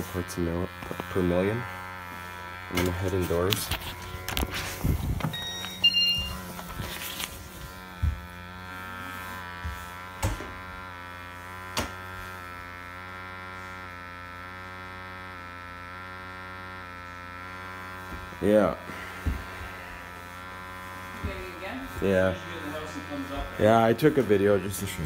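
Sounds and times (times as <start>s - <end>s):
small motor buzzing: 0.0s - 25.0s.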